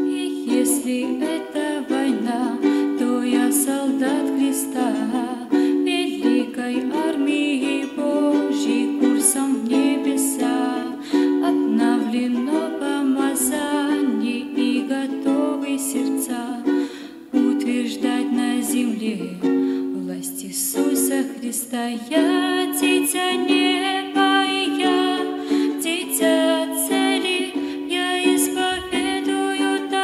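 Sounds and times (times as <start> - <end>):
ukulele strumming: 0.0 - 30.0
woman singing: 0.0 - 30.0.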